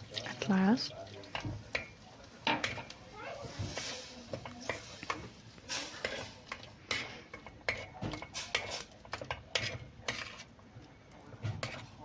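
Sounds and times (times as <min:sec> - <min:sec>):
utensil stirring in a pot: 0:00.0 - 0:12.0.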